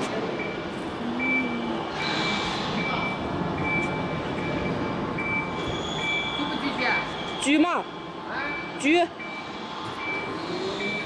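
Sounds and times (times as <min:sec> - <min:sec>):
steady machine noise: 0:00.3 - 0:11.0
high warning beeps: 0:00.4 - 0:11.0.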